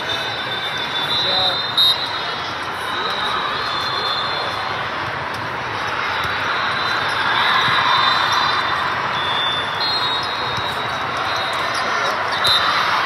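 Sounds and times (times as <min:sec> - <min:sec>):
echoing crowd hubbub: 0:00.0 - 0:13.0
sneakers squeaking: 0:00.0 - 0:13.0.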